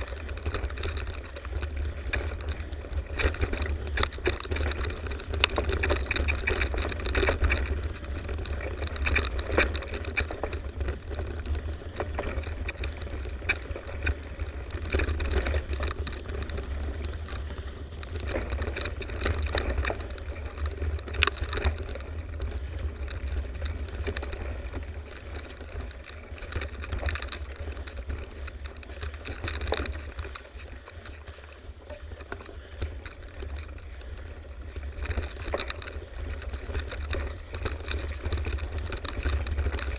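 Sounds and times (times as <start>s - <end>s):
bike rattling over rough ground: 0.0s - 39.9s.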